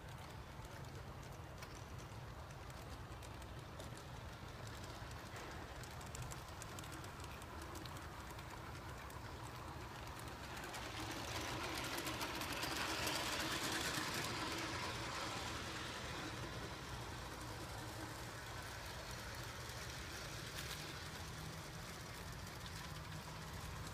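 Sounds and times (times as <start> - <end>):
train rumbling past: 2.3 - 23.9.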